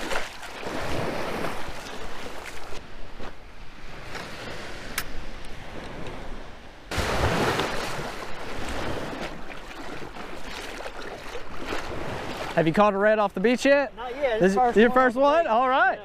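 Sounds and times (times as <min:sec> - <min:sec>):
surf washing: 0:00.0 - 0:15.7.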